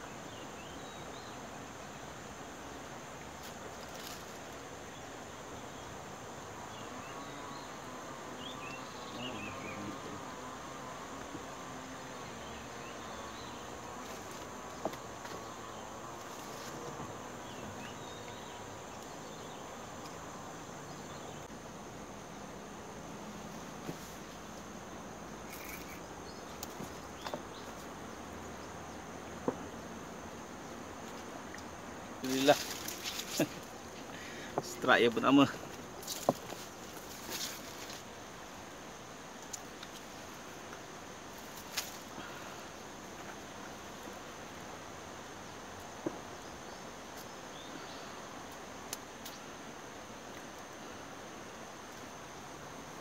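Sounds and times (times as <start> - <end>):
insects buzzing: 0.0 - 53.0
steady hiss: 0.0 - 53.0.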